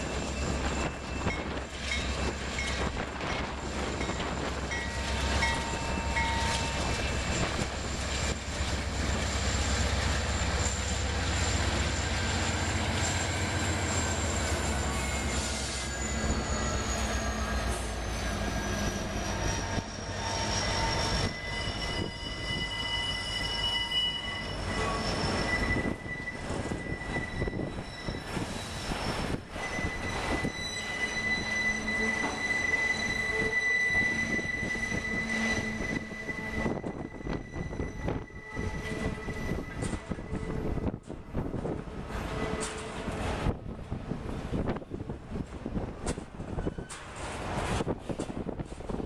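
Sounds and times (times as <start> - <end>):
train wheels squealing: 0.0 - 43.2, 46.1 - 49.0
deep locomotive rumble: 0.0 - 49.0
train cars rumbling and clattering: 0.0 - 49.0.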